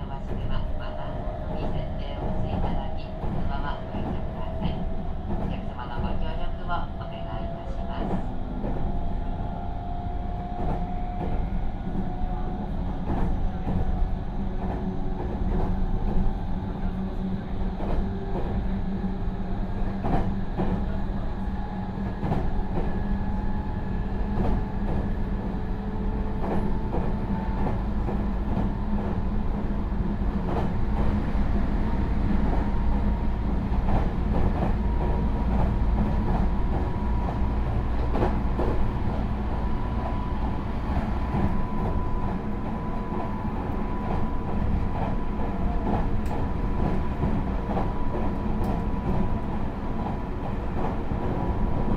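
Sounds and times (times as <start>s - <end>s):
train inverter and motor whine: 0.0s - 51.9s
train wheel rumble: 0.0s - 51.9s
rail joint clicks: 0.2s - 12.2s, 12.9s - 51.9s.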